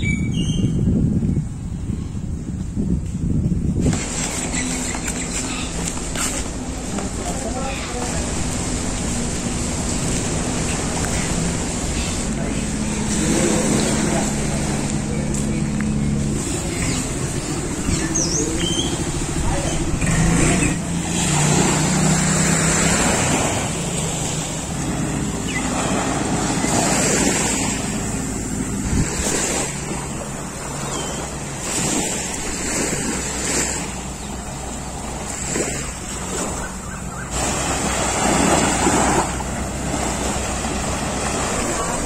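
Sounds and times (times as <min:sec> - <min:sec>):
wind buffeting microphone: 0:00.0 - 0:42.0
small waves washing onto beach: 0:03.7 - 0:42.0
low steady drone: 0:05.4 - 0:42.0.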